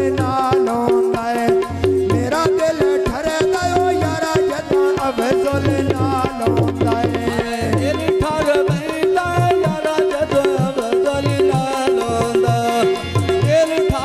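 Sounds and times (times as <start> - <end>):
tabla drumming: 0.0 - 14.0.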